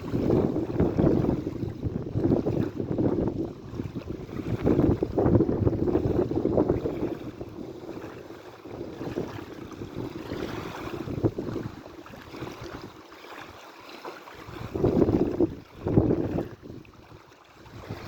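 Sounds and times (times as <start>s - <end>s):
sea waves lapping: 0.0s - 18.0s.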